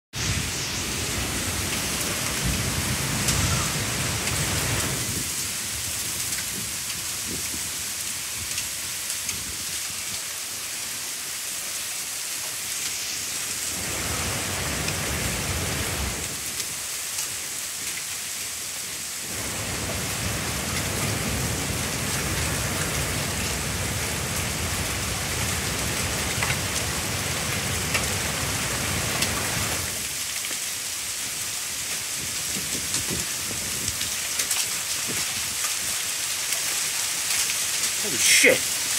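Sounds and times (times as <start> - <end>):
heavy rain pouring: 0.2 - 38.9.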